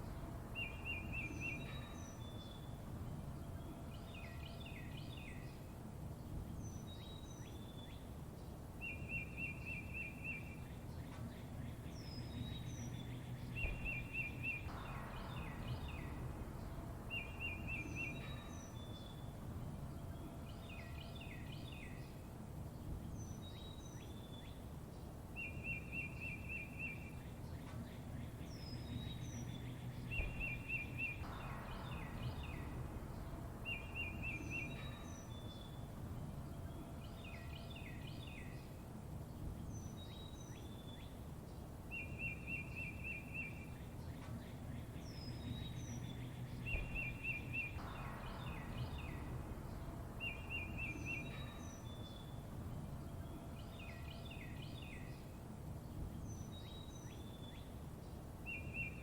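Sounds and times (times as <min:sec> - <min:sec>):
low background rumble: 0:00.0 - 0:09.6, 0:10.4 - 0:59.0
songbirds chirping and whistling: 0:00.0 - 0:59.0.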